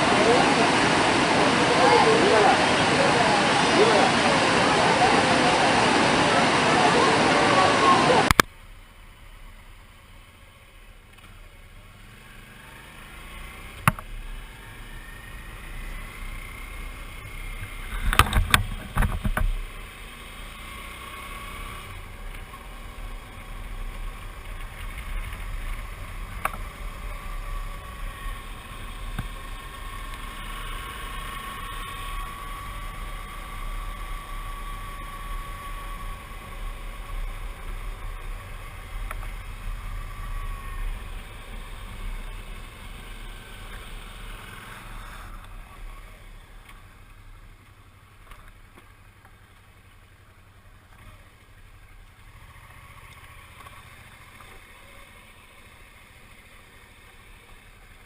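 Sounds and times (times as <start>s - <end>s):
faint steady tone: 0.0s - 58.0s
motorcycle riding: 0.0s - 58.0s.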